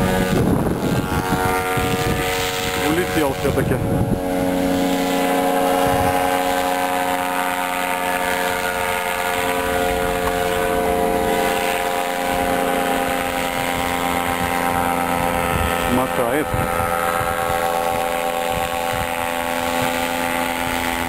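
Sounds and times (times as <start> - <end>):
paramotor engine droning: 0.0 - 21.0
wind rumbling on microphone: 0.0 - 21.0.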